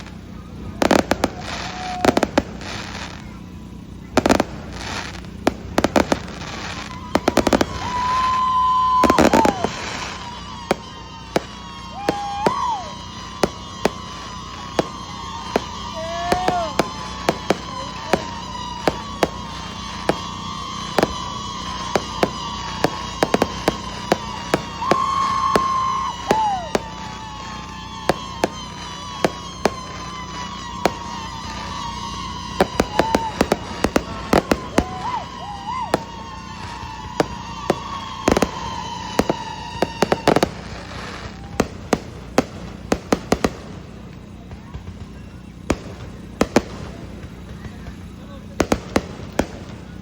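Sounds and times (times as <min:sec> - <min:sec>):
fireworks exploding: 0:00.0 - 0:50.0.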